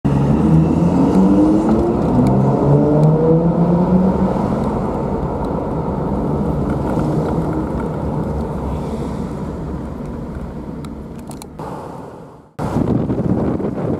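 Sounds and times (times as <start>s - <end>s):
road and tyre noise: 0.0s - 13.9s
car engine accelerating: 0.1s - 11.8s.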